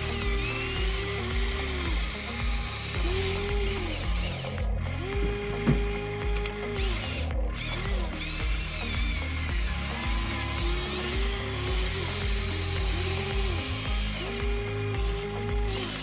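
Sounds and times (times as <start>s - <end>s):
background music: 0.0s - 16.0s
toy excavator motors whining: 0.0s - 16.0s.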